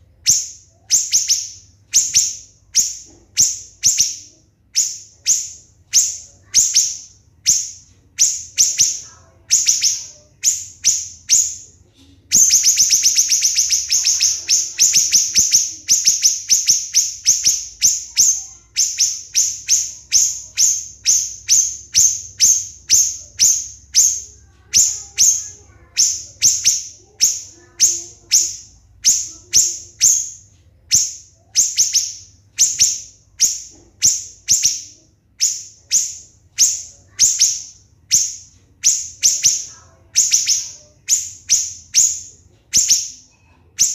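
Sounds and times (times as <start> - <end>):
bird singing rapid high notes: 0.2 - 11.6, 12.3 - 43.9.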